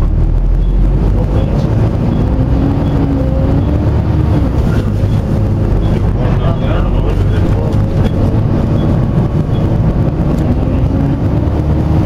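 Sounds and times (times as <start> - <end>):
bus engine cooling fan drone: 0.0 - 12.0.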